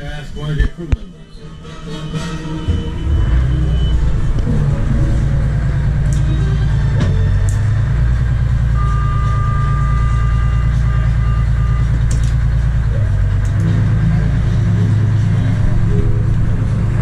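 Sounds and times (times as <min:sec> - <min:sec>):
boat engines idling: 0:02.7 - 0:17.0.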